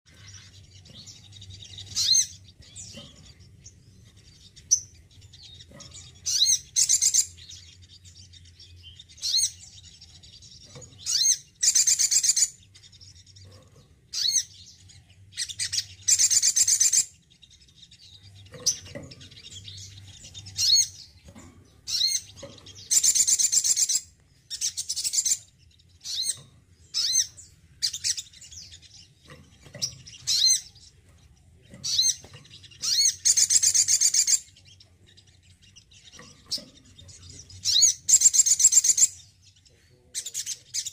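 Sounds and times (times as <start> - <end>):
bird trilling song: 0.1 - 40.9.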